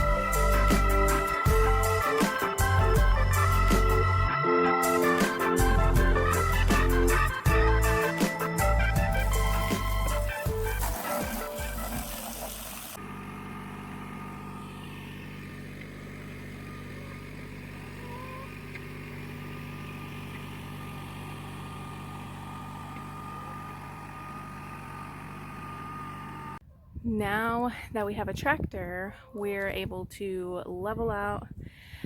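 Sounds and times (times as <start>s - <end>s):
tractor diesel engine idling: 0.0s - 26.6s.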